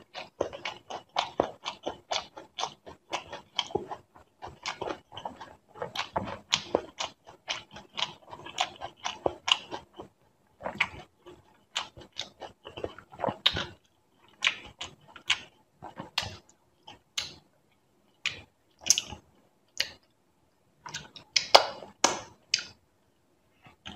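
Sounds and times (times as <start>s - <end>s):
wet mouth clicks chewing: 0.0s - 17.4s, 18.2s - 19.2s, 19.8s - 20.1s, 20.8s - 22.8s.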